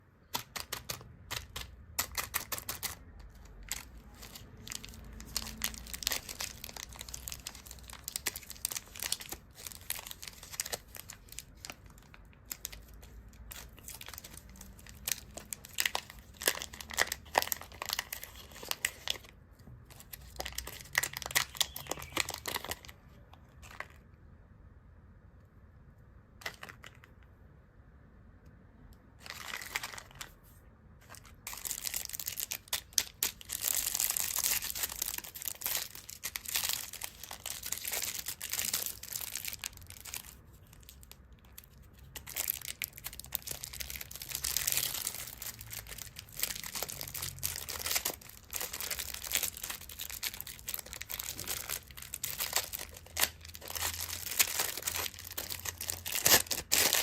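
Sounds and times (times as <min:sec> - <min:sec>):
candy wrappers crinkling: 0:00.2 - 0:24.1, 0:26.4 - 0:27.2, 0:29.2 - 0:57.0.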